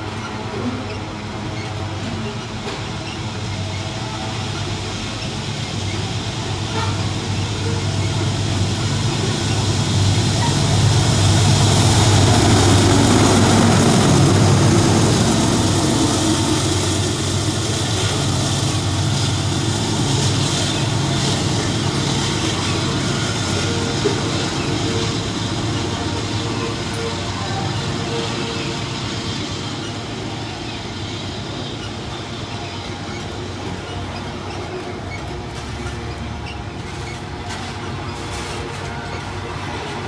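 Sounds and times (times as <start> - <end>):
diesel locomotive engine drone: 0.0 - 40.0
train wagons rumbling and clattering: 0.0 - 40.0.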